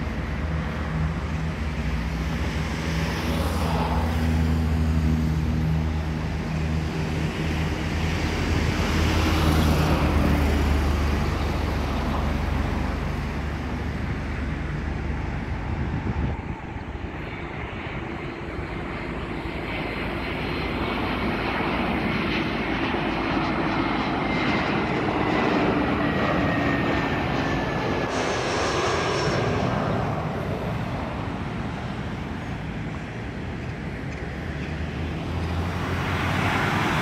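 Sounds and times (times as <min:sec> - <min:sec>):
jet airliner flying overhead: 0:00.0 - 0:37.0
road traffic noise: 0:00.0 - 0:37.0.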